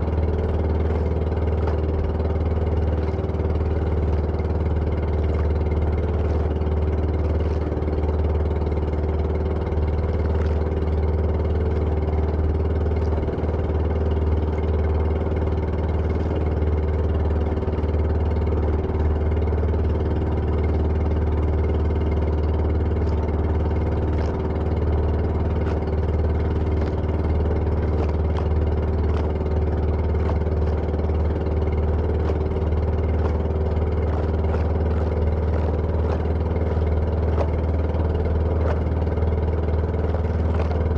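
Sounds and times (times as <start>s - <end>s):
engine humming steadily: 0.0s - 40.9s.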